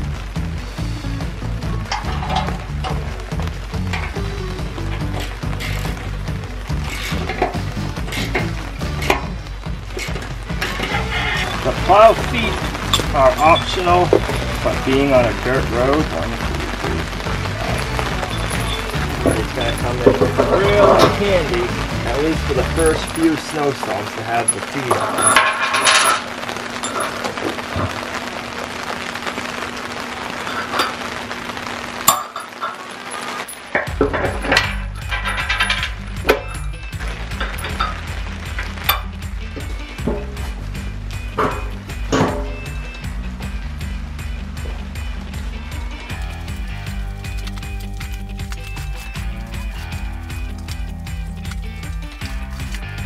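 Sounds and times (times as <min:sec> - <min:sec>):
background music: 0:00.0 - 0:53.0
rain hissing: 0:00.0 - 0:53.0.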